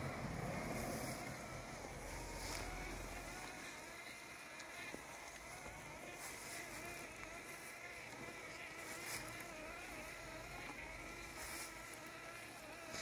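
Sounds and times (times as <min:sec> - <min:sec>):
robotic lawn mower motor whine: 0:00.0 - 0:13.0.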